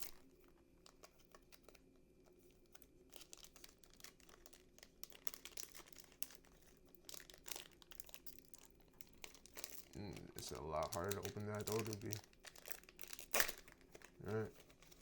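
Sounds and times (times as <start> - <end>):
wrapper crinkling and tearing: 0.0 - 1.8, 2.6 - 15.0.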